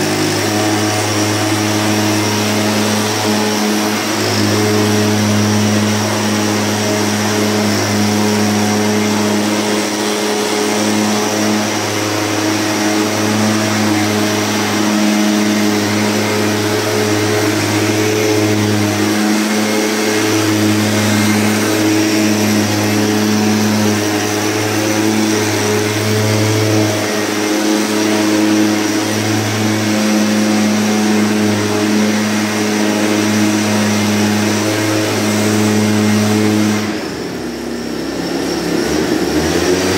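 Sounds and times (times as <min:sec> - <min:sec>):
mist blower engine drone: 0:00.0 - 0:39.9.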